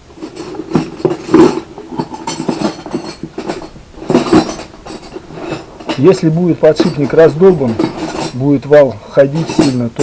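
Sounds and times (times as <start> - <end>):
metal shaft clunking and knocking: 0.4 - 8.6.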